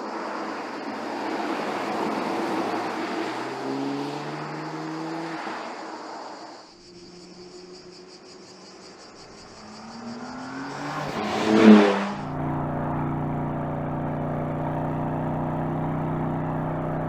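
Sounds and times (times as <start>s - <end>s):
car passing by: 0.0s - 14.0s
car engine drone: 0.0s - 17.0s.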